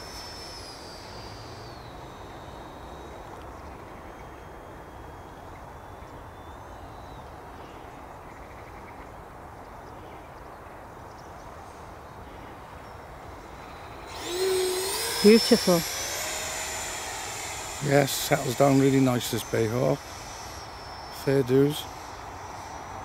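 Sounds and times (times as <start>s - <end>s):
model jet fan whining: 0.0s - 7.9s, 11.6s - 23.0s.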